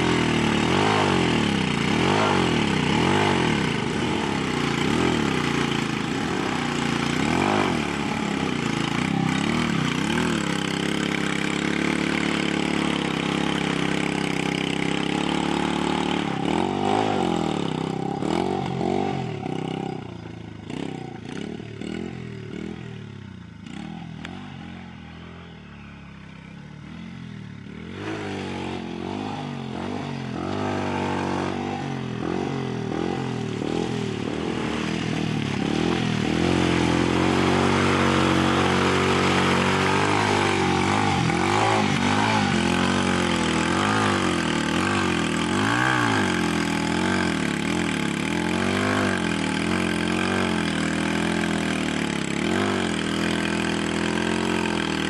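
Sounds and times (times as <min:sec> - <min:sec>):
quad engine revving: 0:00.0 - 0:55.0.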